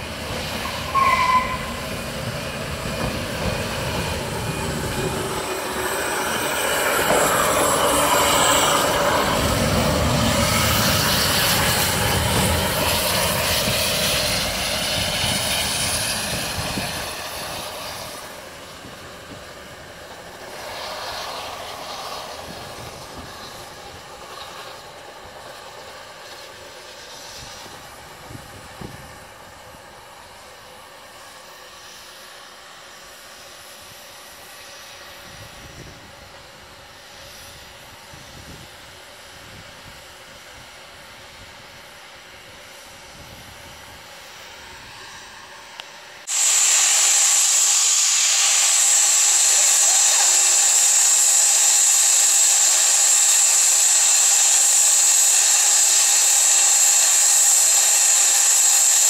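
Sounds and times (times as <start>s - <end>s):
locomotive steam hissing: 0.0s - 59.0s.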